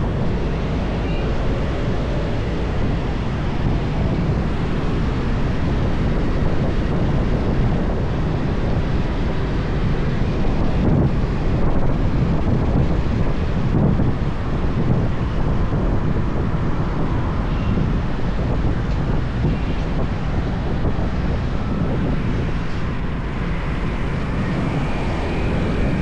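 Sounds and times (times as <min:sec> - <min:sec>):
road noise: 0:00.0 - 0:26.0
wind buffeting microphone: 0:00.0 - 0:26.0.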